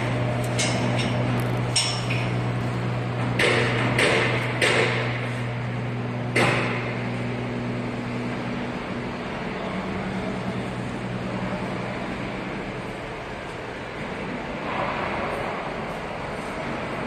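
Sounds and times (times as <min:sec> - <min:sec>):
workshop machinery humming: 0:00.0 - 0:17.0.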